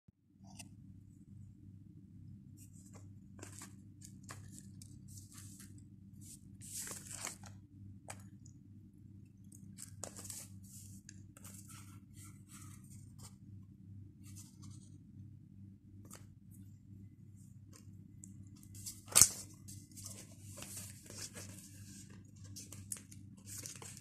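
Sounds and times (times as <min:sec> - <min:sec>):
steady low hum: 0:00.3 - 0:24.0.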